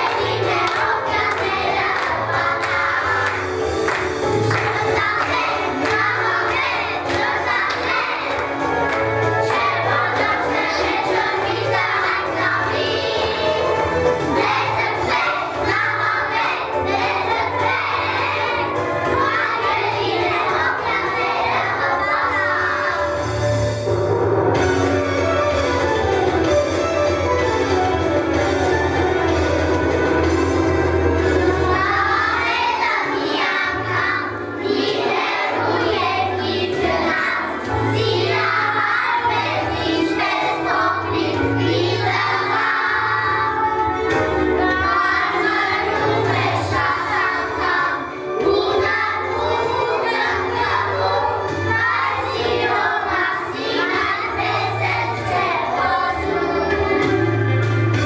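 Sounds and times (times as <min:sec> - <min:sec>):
children singing: 0:00.0 - 0:23.6, 0:28.9 - 0:57.7.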